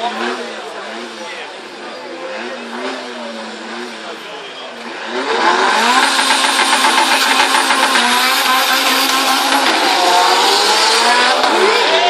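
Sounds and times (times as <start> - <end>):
pickup engine at full throttle: 0.0 - 12.0.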